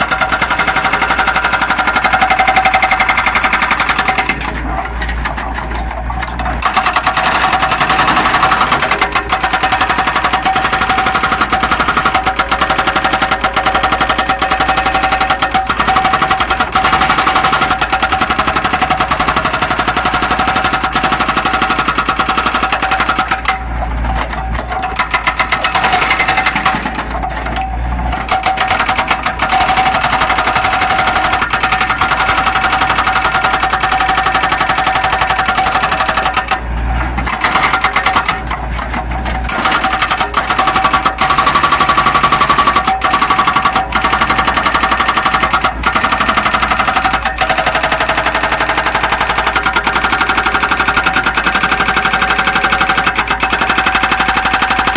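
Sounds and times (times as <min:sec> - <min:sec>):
excavator diesel engine clattering: 0:00.0 - 0:54.9.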